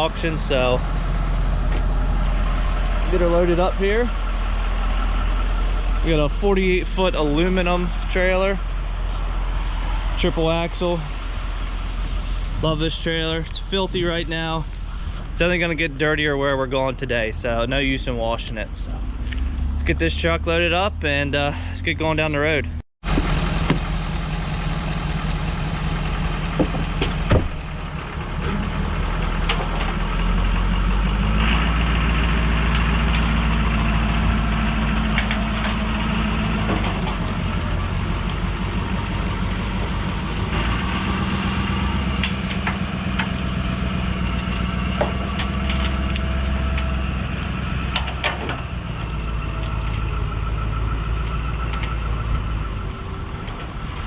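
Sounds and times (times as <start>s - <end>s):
diesel pickup engine: 0.0s - 54.0s.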